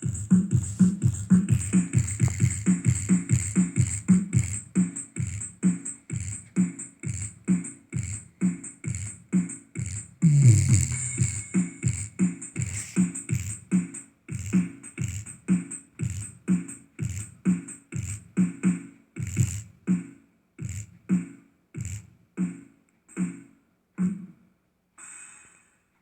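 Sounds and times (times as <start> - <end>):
bass-heavy beat music: 0.0 - 24.4.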